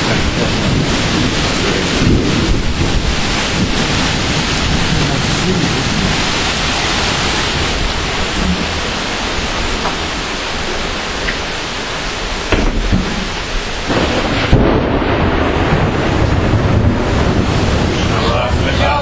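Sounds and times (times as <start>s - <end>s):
heavy rain: 0.0s - 19.0s
low thunder rumbling: 0.0s - 19.0s.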